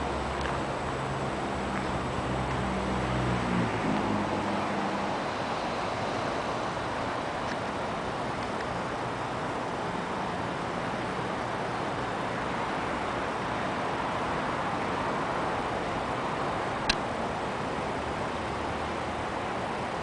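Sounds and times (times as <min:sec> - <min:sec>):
rushing outdoor background noise: 0:00.0 - 0:20.0.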